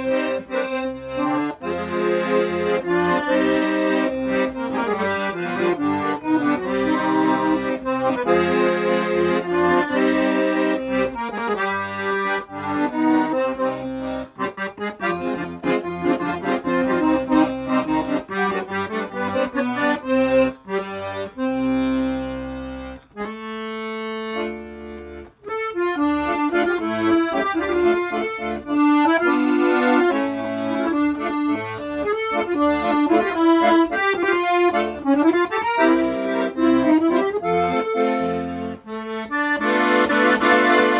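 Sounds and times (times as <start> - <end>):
piano accordion playing a tune: 0.0 - 40.9.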